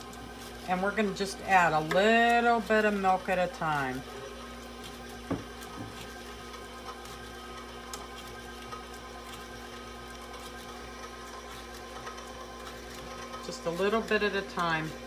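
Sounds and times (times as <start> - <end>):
stand mixer motor running: 0.0 - 15.0.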